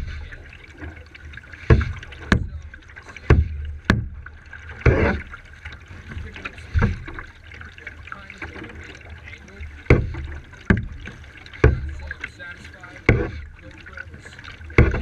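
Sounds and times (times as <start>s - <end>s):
paddle knocking against hull: 0.0s - 15.0s
paddle splashing in water: 0.0s - 15.0s.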